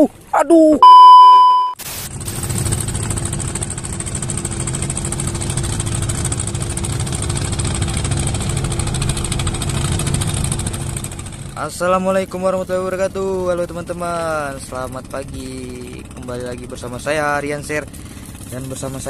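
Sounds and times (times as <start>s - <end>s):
boat engine running: 2.1s - 19.0s.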